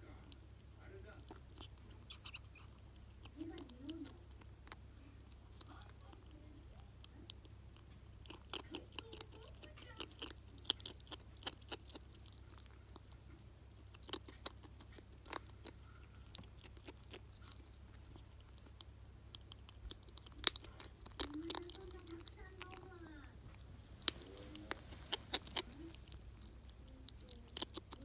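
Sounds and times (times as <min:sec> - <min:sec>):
ferret crunching dry kibble: 0:00.0 - 0:28.0.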